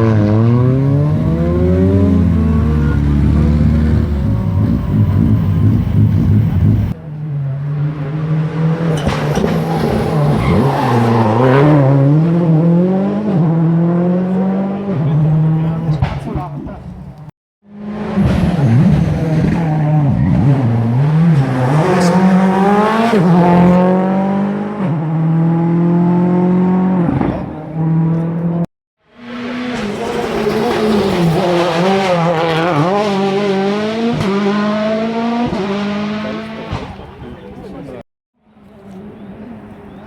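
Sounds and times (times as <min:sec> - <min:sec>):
rally car engine revving hard: 0:00.0 - 0:16.4, 0:17.7 - 0:37.2.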